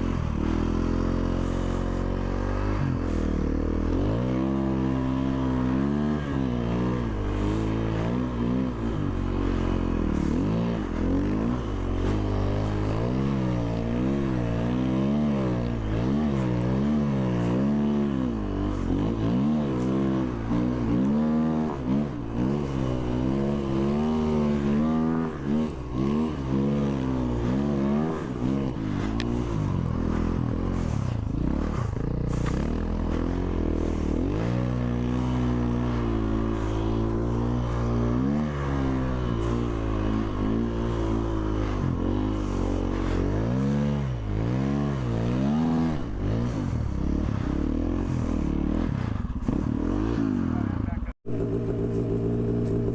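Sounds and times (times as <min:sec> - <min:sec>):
snow vehicle engine revving: 0:00.0 - 0:52.9.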